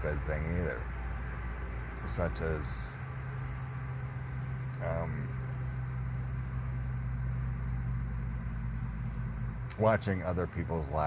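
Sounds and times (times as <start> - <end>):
crickets trilling: 0.0 - 11.0
steady low hum: 0.0 - 11.0.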